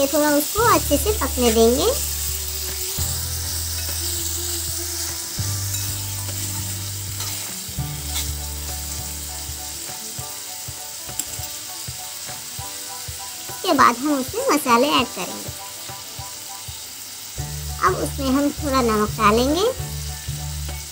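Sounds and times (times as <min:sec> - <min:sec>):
vegetables sizzling in oil: 0:00.0 - 0:20.9.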